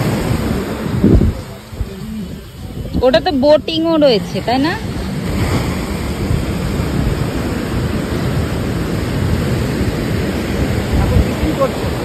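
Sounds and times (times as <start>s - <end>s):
sea surf breaking on beach: 0.0s - 12.0s
wind buffeting microphone: 0.0s - 12.0s.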